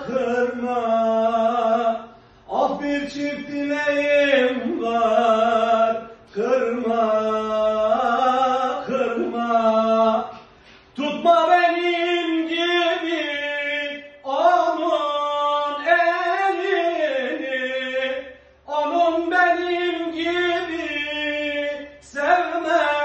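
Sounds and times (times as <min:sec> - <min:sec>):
man singing unaccompanied: 0:00.0 - 0:23.0.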